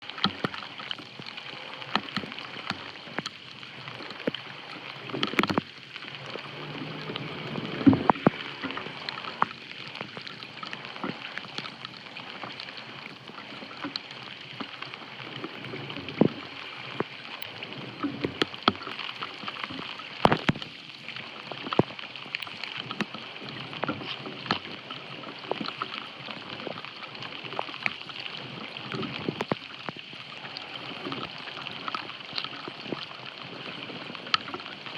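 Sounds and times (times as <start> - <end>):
floodwater splashing: 0.0 - 34.9.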